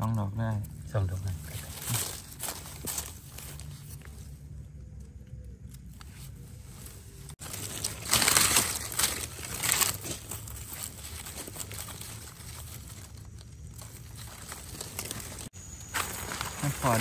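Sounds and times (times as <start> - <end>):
dry leaves rustling and crunching: 0.0 - 17.0.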